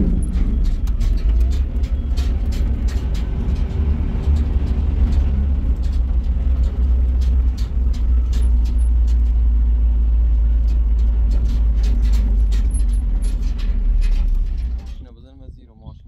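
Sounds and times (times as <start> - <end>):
cab rattles and knocks: 0.0 - 15.3
truck engine and road rumble: 0.0 - 16.0.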